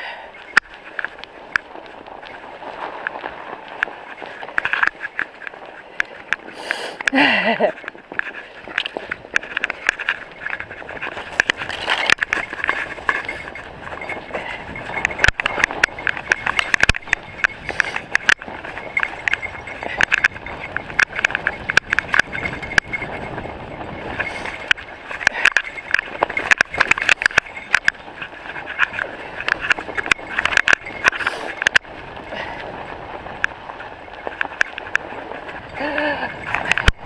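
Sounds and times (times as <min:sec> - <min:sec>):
bike rattling over bumps: 0:00.0 - 0:37.0
bike tyre and drivetrain noise: 0:00.0 - 0:37.0.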